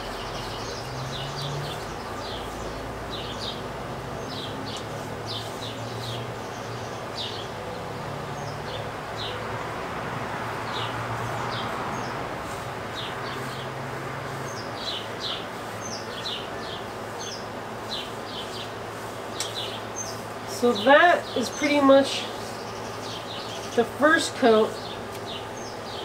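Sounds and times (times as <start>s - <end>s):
small birds chirping: 0.0s - 9.7s, 10.5s - 26.0s
outdoor hiss: 0.0s - 26.0s.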